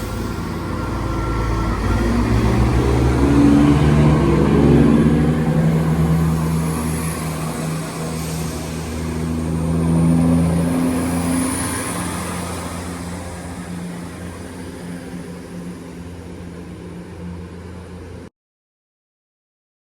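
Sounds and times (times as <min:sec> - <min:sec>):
diesel train engine humming: 0:00.0 - 0:18.3.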